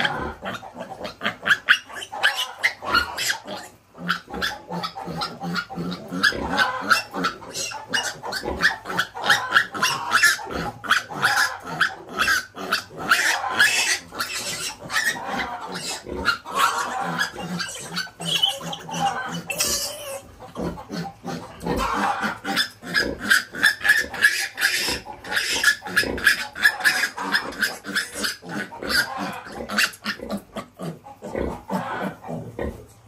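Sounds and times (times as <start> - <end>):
piglets squealing and grunting: 0.0 - 33.0.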